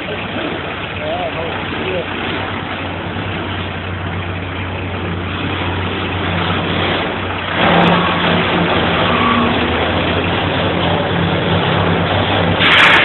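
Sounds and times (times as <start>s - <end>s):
loader engine running: 0.0s - 13.0s.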